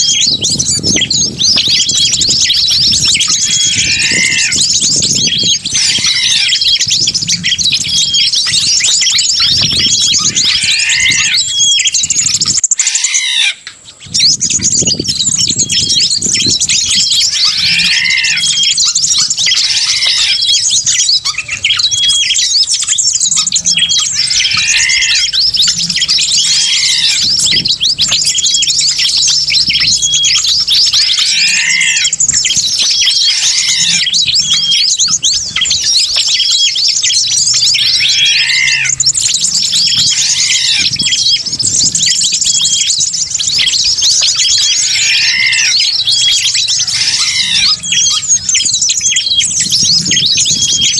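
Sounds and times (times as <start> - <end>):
low arched bird call: 0.0 - 50.9
small birds chirping and twittering: 0.0 - 50.9.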